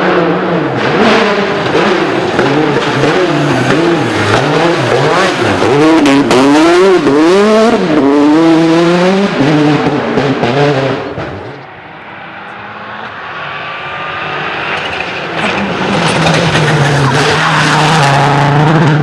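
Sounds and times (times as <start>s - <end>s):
rally car engine approaching: 0.0s - 19.0s
rally car engine passing: 0.0s - 19.0s.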